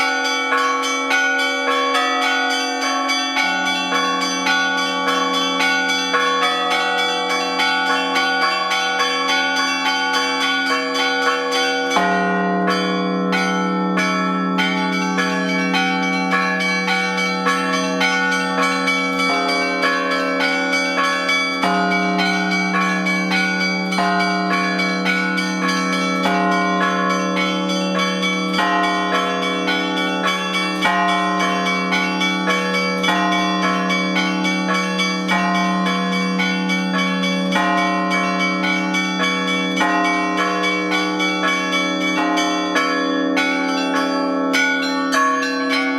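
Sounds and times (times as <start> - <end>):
low church bells ringing: 0.0 - 45.9
small church bells striking: 0.0 - 45.9.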